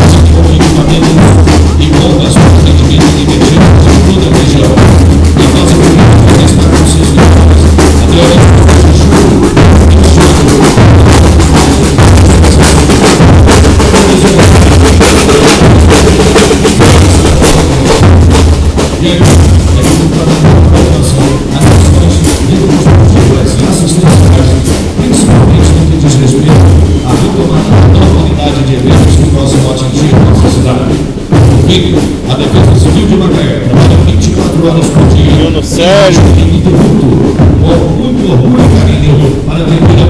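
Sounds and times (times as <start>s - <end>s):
bass drums beating: 0.0s - 40.0s
snare drums striking: 0.0s - 40.0s.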